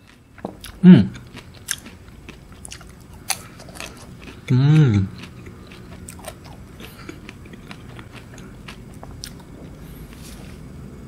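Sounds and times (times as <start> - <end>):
crunchy ice cream chewing: 0.0 - 10.8.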